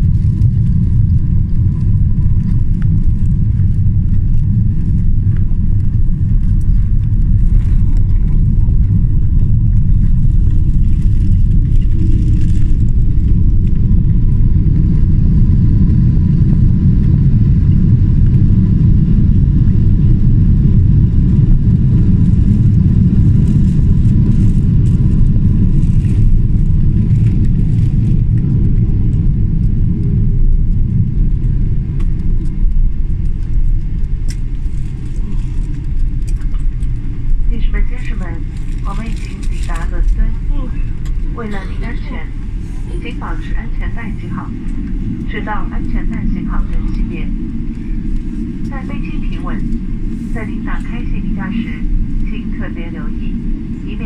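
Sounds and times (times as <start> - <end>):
airplane cabin engine rumble: 0.0 - 54.0
faint steady whine: 0.0 - 54.0.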